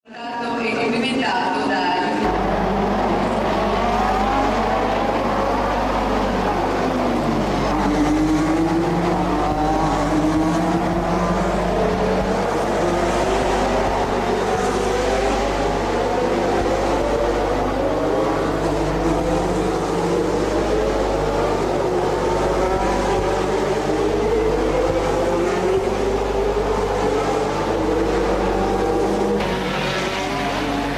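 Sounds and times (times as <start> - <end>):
racing car engines revving: 0.1 - 30.9.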